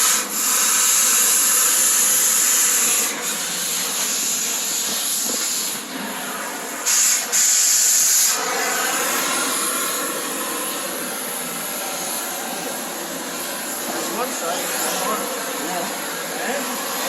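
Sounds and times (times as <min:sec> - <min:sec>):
cutting torch hissing: 0:00.0 - 0:17.0.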